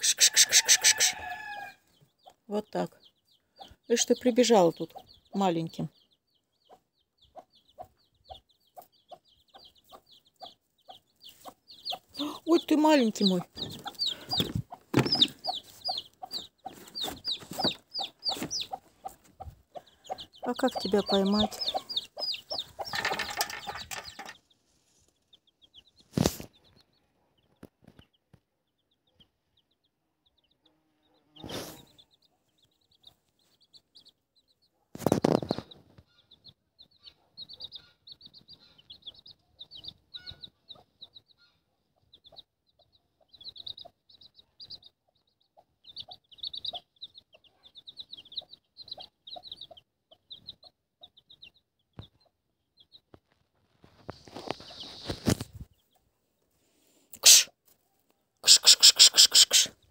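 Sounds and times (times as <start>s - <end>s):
hen clucking softly: 0.0s - 24.4s, 30.4s - 53.1s, 58.4s - 59.9s
chicks peeping: 0.0s - 56.5s.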